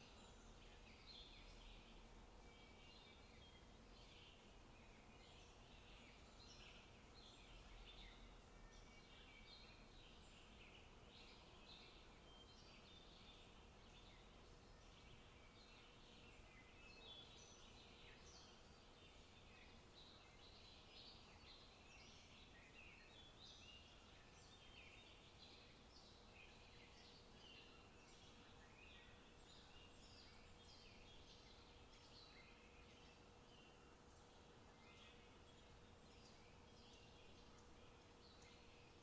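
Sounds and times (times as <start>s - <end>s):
soft steady hiss: 0.0s - 39.0s
birds chirping and trilling: 2.5s - 39.0s.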